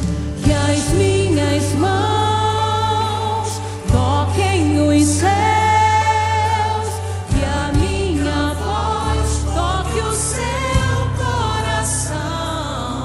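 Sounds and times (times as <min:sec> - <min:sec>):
backing track: 0:00.0 - 0:13.0
choir-like backing voices: 0:00.0 - 0:13.0
woman singing into microphone: 0:00.0 - 0:13.0.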